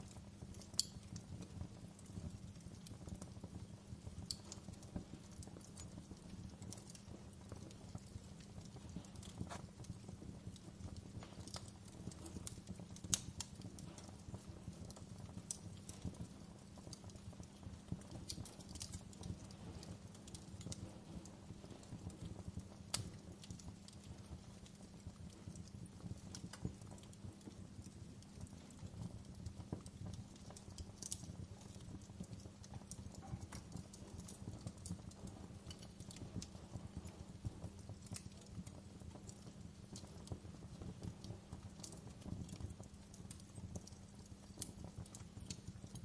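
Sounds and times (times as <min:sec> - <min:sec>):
low rumble of flames: 0:00.0 - 0:46.0
wood fire crackling and popping: 0:00.0 - 0:46.0.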